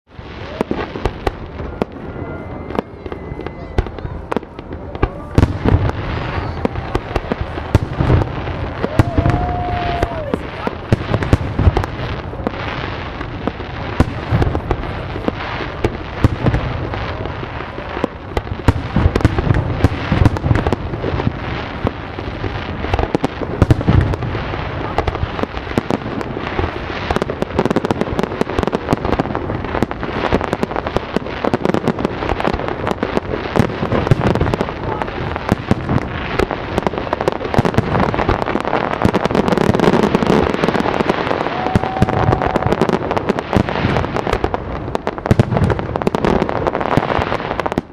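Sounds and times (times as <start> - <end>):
fireworks bangs and crackles: 0.0 - 47.9
deep fireworks booms: 0.1 - 47.9.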